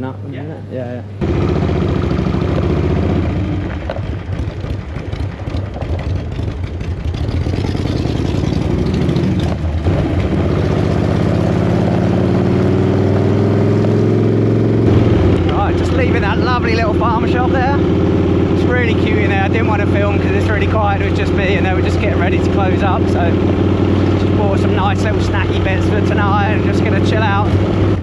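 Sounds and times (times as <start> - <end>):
motorcycle engine running: 1.2 - 28.0.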